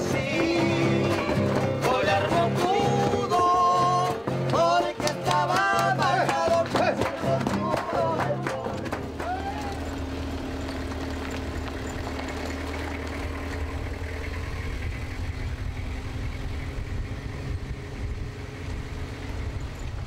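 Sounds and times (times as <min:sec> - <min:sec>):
tyres rumbling on dirt road: 0:00.0 - 0:20.0
vehicle engine drone: 0:00.0 - 0:20.0.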